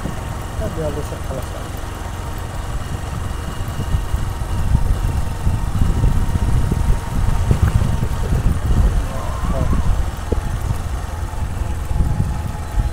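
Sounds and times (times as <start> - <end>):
wind buffeting microphone: 1.8 - 12.9.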